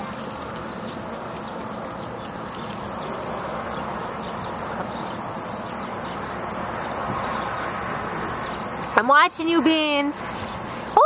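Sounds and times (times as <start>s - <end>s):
hose water spraying on grass: 0.0s - 11.0s.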